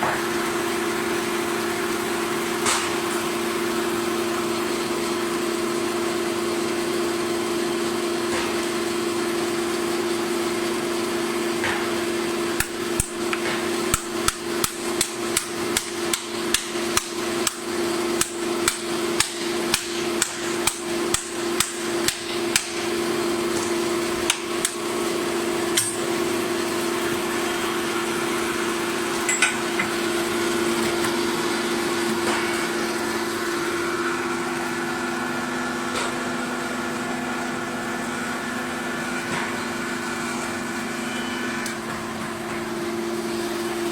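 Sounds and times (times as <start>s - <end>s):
machinery humming: 0.0s - 43.9s.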